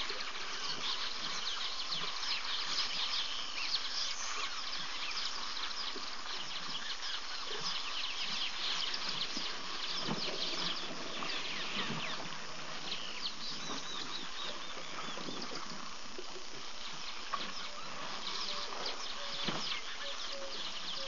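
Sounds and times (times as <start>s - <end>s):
birds chirping and twittering: 0.0s - 21.0s.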